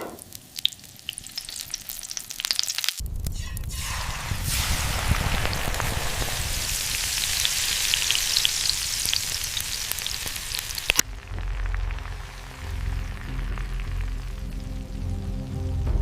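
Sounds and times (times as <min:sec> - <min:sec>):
food sizzling in hot fat: 0:00.0 - 0:15.8.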